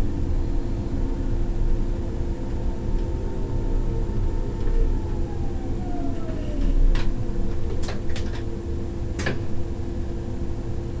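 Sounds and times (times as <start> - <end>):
electric train rumble and hum: 0.0 - 11.0.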